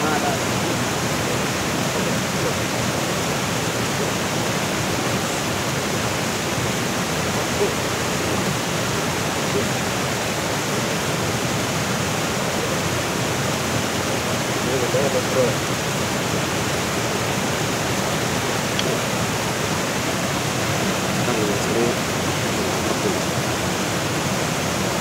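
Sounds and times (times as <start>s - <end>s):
waterfall pouring into stream: 0.0s - 25.0s.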